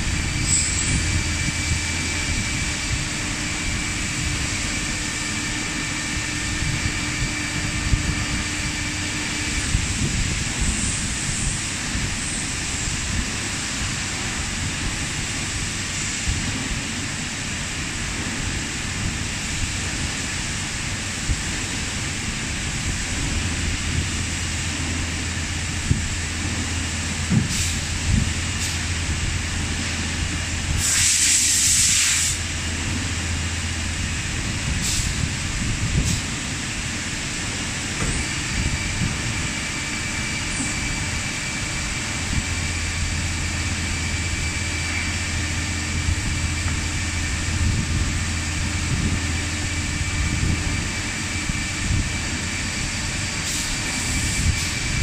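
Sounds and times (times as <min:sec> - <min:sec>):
loud hiss of air: 0:00.0 - 0:55.0
machine shop machinery noise: 0:00.0 - 0:55.0.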